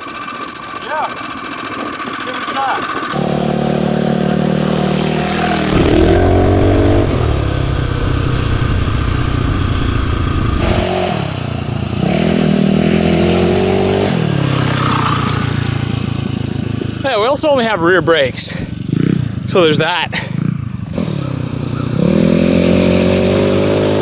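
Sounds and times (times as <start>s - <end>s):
dirt bike engine revving: 0.0s - 17.4s, 18.6s - 24.0s.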